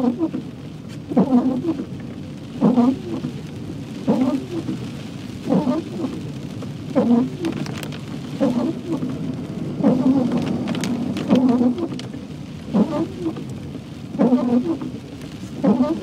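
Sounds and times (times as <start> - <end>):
rain and wet tyres hissing: 0.0 - 16.0
windscreen wipers squeaking: 0.0 - 16.0.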